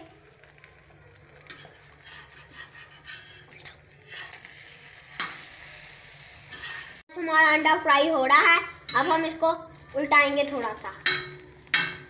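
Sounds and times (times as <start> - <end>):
egg sizzling on a griddle: 0.0 - 12.0
spatula scraping a pan: 1.2 - 8.0, 8.6 - 12.0.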